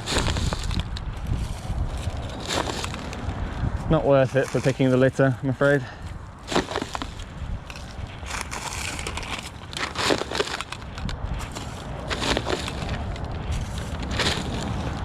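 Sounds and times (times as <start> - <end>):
twigs snapping underfoot: 0.0 - 4.8, 6.1 - 15.0.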